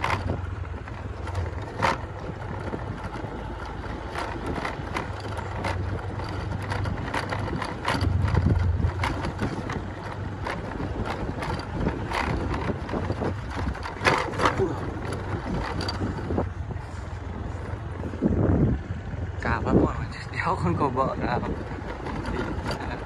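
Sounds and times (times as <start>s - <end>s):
light clicks and knocks: 0.0s - 18.1s, 20.9s - 23.0s
wind buffeting microphone: 0.0s - 23.0s.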